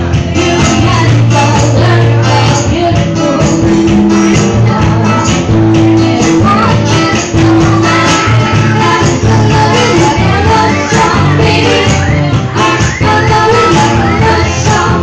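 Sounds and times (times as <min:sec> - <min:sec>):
acoustic guitar strumming: 0:00.0 - 0:15.0
steady beat: 0:00.0 - 0:15.0.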